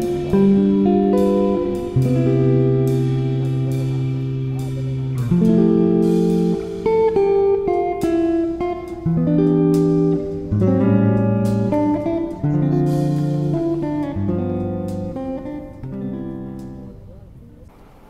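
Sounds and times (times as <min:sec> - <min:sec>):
guitar music: 0:00.0 - 0:17.7.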